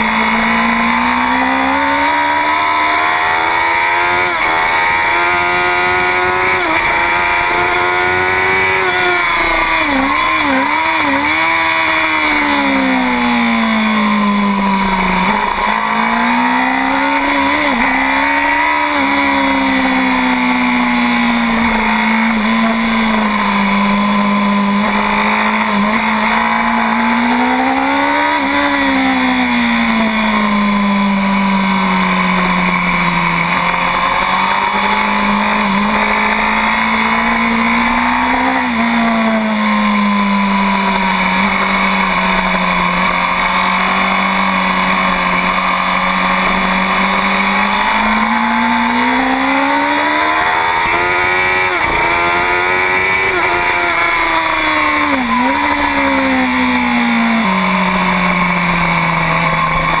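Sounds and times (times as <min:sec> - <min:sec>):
motorcycle engine racing: 0:00.0 - 1:00.0.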